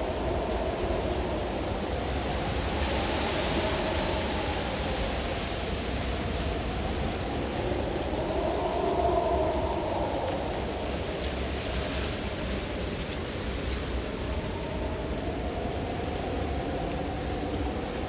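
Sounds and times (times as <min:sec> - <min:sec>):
howling blizzard wind: 0:00.0 - 0:18.0.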